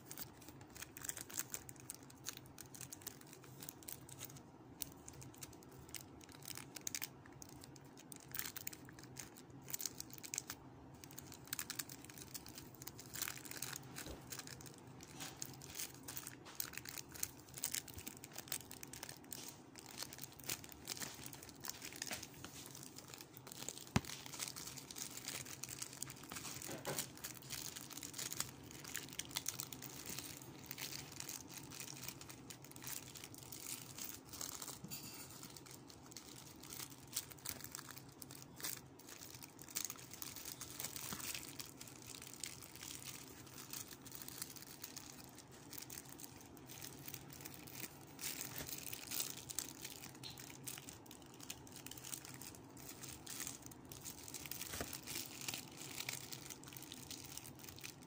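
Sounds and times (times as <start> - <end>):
plastic packaging crinkling: 0.0 - 58.0.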